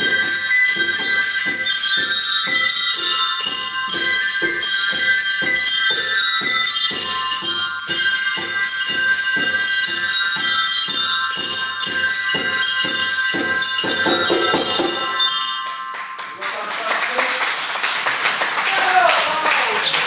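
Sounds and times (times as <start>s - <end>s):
glockenspiels playing: 0.0s - 17.9s.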